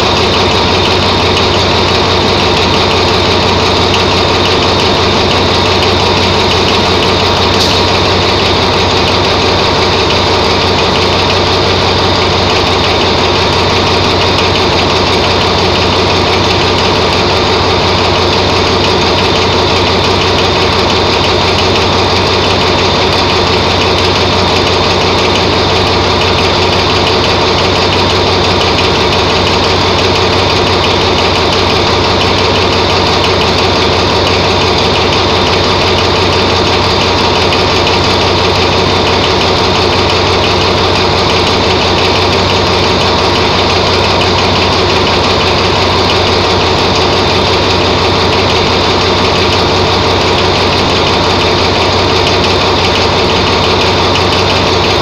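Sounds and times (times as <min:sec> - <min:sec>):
locomotive engine idling: 0:00.0 - 0:55.0.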